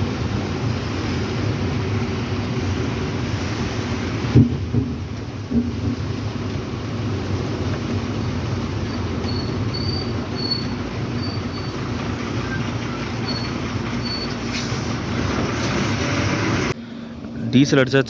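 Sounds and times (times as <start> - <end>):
lorry engine and road noise: 0.0 - 18.0.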